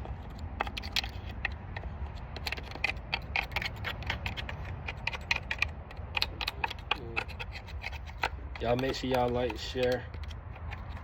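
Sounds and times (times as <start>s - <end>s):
light clicks and scrapes of parts: 0.0s - 11.0s.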